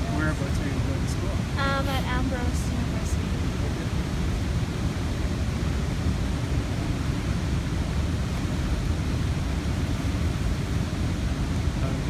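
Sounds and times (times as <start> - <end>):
rushing falling water: 0.0 - 12.0.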